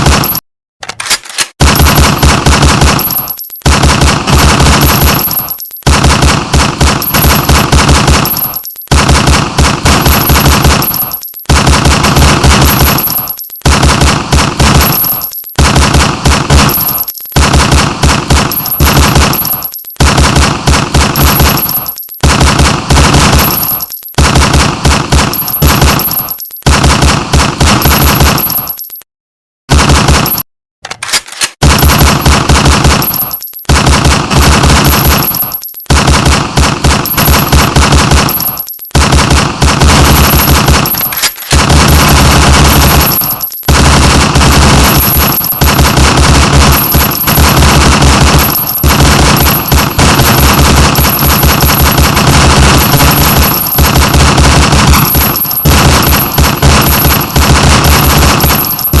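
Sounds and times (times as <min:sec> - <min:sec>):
automatic gunfire bursts: 0:01.6 - 0:28.6, 0:31.6 - 0:59.0.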